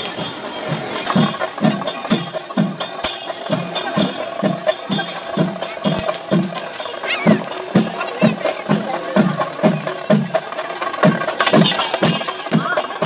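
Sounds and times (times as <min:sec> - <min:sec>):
drums and hand cymbals: 0:00.0 - 0:13.0.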